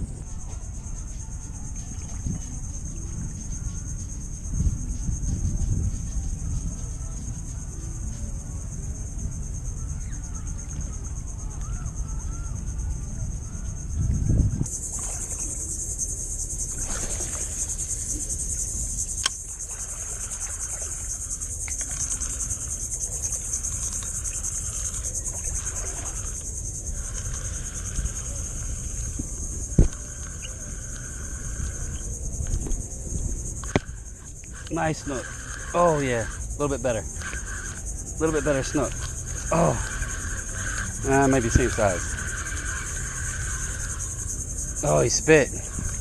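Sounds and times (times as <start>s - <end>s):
insects chirring: 0.0s - 46.0s.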